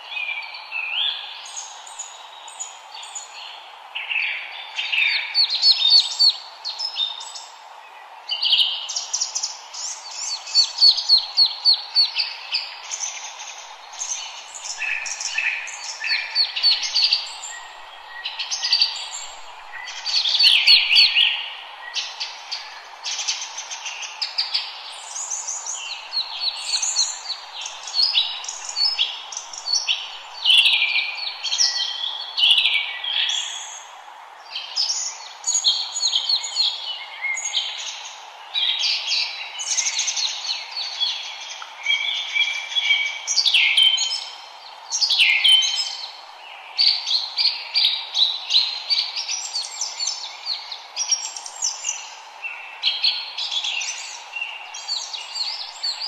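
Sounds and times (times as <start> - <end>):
songbirds chirping and trilling: 0.0 - 56.0
steady low hiss: 0.0 - 56.0.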